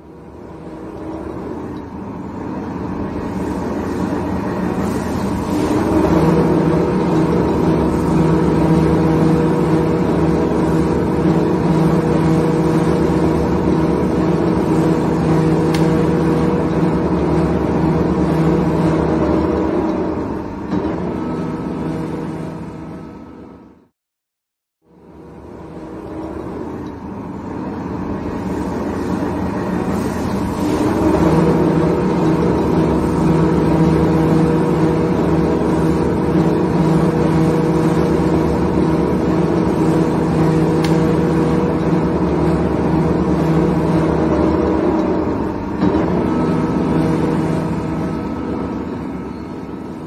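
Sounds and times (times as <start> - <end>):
mixing mill motor humming: 0.0 - 23.9, 24.9 - 50.0.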